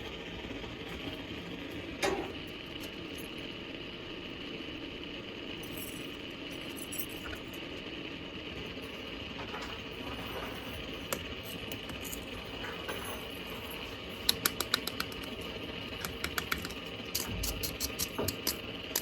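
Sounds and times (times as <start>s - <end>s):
steady mechanical drone: 0.0s - 19.0s.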